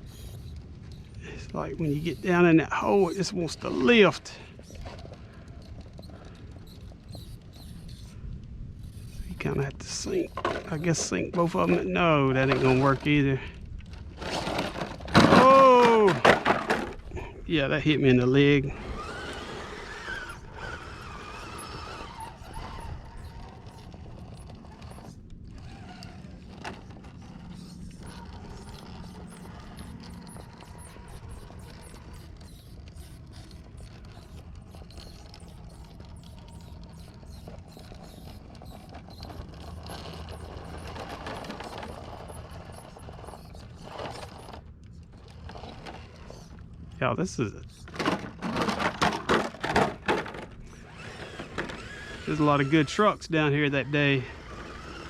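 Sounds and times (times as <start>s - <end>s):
toy car electric motor whining: 0.0s - 55.0s.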